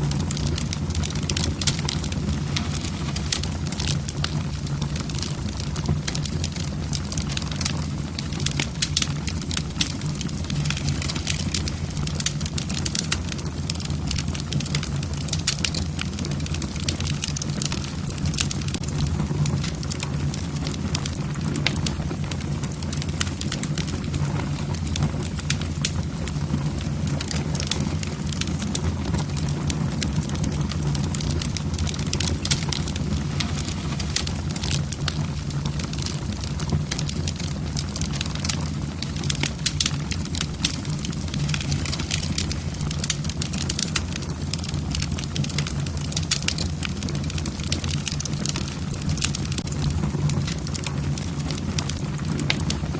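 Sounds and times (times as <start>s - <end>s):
log fire crackling: 0.0s - 52.9s.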